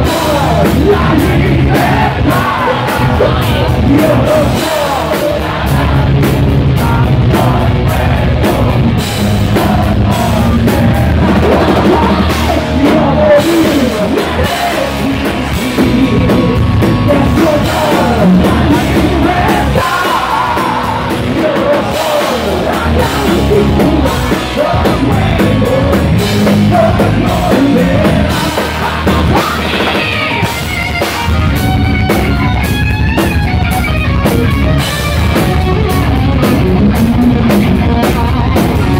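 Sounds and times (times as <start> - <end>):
electric guitar lead bending notes: 0.0 - 38.9
heavy metal band playing live: 0.0 - 38.9
sung lead vocals: 0.0 - 38.9.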